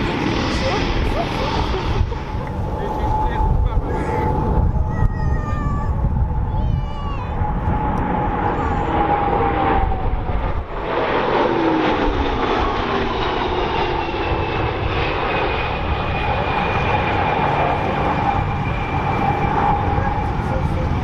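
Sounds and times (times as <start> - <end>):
jet aircraft flyby: 0.0 - 21.0.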